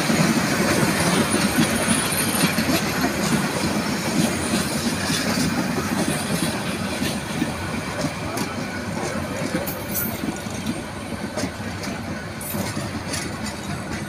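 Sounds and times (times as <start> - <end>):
clacks over rail joints: 0.0 - 14.0
train wheels rumbling on rail: 0.0 - 14.0.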